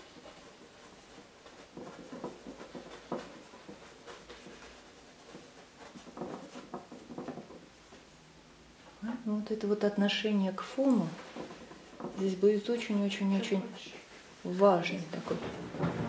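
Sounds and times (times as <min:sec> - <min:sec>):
paintbrush scrubbing on canvas: 0:00.0 - 0:08.1, 0:10.2 - 0:15.9.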